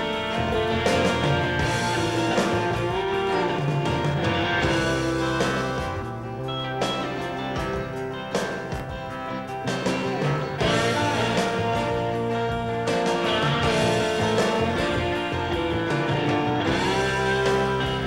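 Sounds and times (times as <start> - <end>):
electric guitar melody: 0.0 - 18.0
instrumental band music: 0.0 - 18.0.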